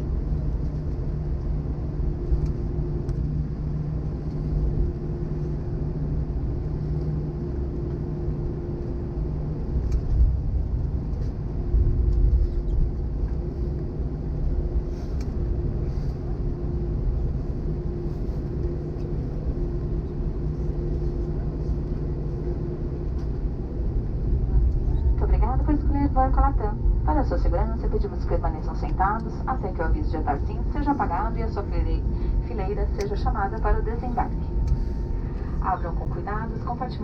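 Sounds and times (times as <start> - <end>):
jet engines idling rumble: 0.0 - 37.0.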